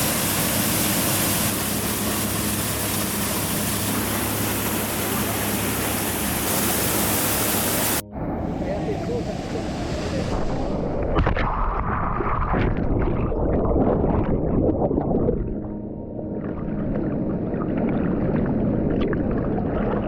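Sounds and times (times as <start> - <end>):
water rushing and gurgling: 0.0 - 20.0.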